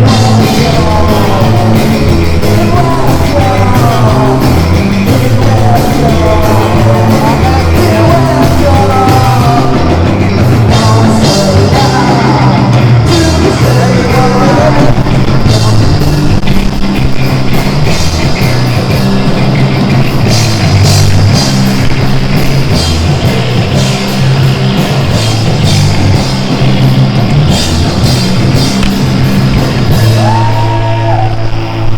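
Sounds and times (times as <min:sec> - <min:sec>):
live rock band playing: 0:00.0 - 0:31.9.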